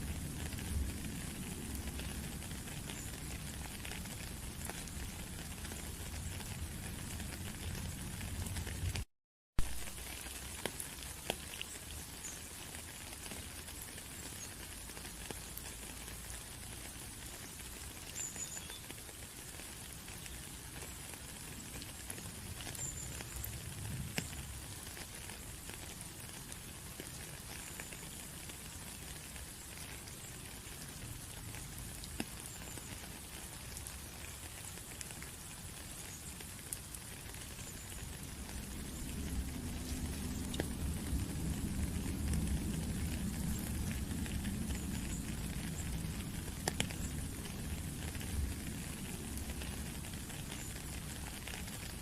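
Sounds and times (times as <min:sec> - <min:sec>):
rain pattering: 0:00.0 - 0:52.0.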